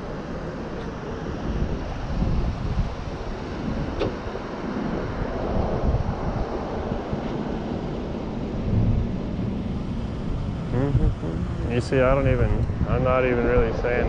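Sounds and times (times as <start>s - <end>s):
road traffic passing: 0.0s - 14.0s
wind buffeting the microphone: 0.4s - 14.0s.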